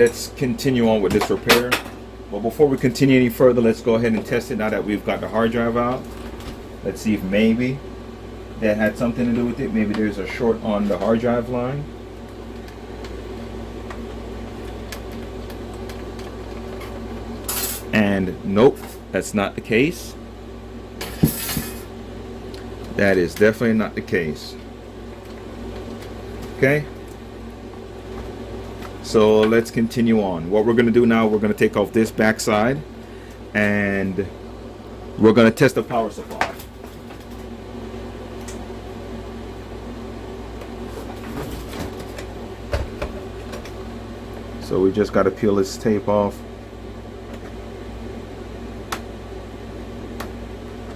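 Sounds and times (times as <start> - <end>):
low electrical hum: 0.0 - 50.9.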